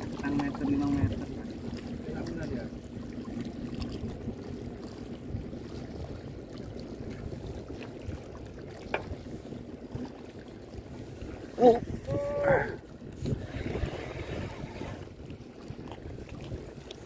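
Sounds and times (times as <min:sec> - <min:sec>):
water lapping around boat: 0:00.0 - 0:17.0
wind buffeting microphone: 0:00.0 - 0:17.0.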